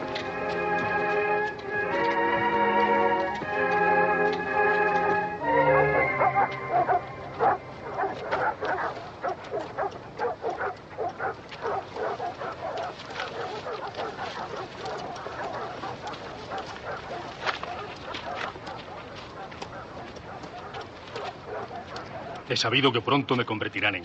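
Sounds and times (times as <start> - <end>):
dogs barking and yapping: 0.0 - 22.9.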